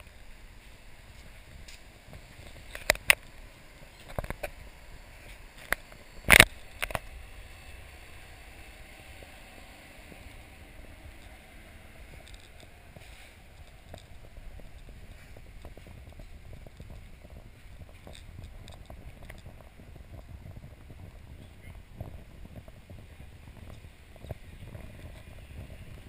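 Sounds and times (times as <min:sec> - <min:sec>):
low outdoor hiss: 0:00.0 - 0:26.0.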